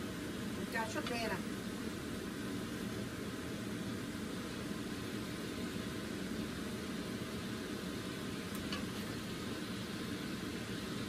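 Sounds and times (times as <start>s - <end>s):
food cooking in frying pan: 0.0s - 11.0s.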